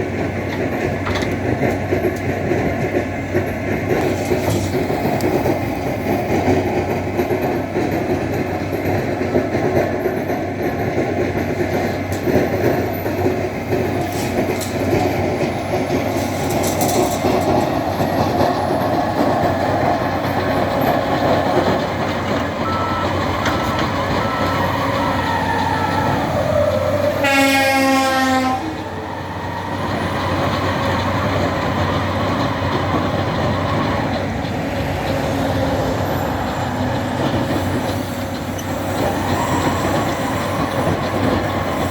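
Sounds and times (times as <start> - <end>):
diesel loader rumbling and clattering: 0.0 - 41.9.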